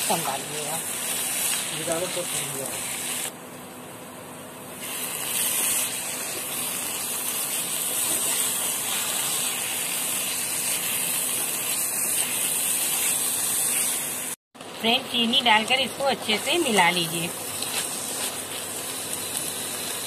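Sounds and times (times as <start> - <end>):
halwa bubbling and sizzling in pan: 0.0 - 20.0.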